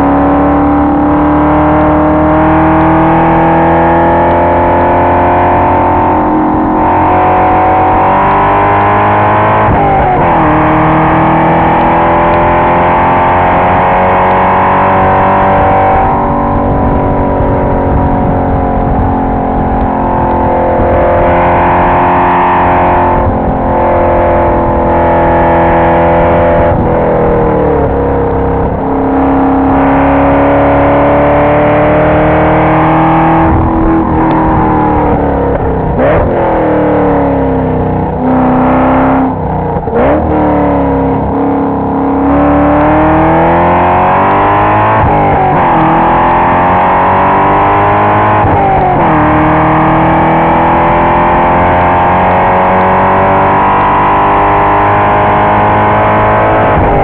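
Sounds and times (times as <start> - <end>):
car engine revving from inside: 0.0 - 57.0.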